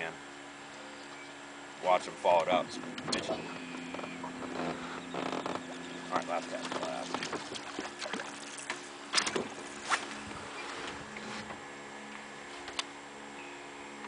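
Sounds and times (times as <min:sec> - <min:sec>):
electric trolling motor hum: 0:00.0 - 0:14.0.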